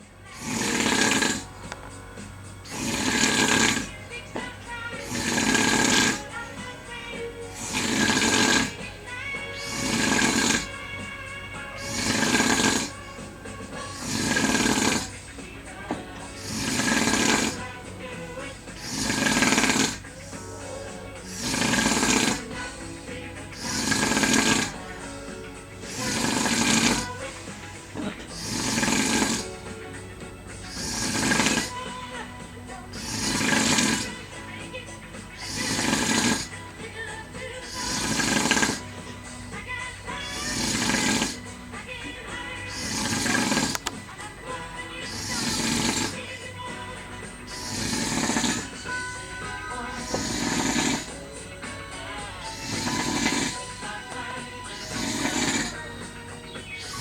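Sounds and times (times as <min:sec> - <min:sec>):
man snoring: 0:00.0 - 0:57.0.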